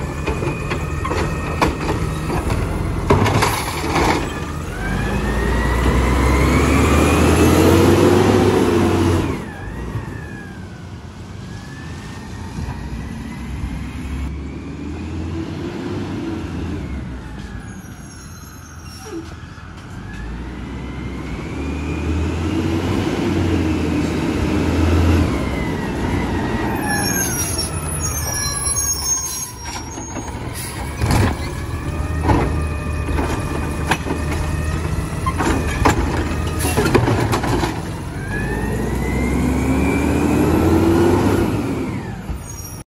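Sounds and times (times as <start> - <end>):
garbage truck engine: 0.0 - 42.8.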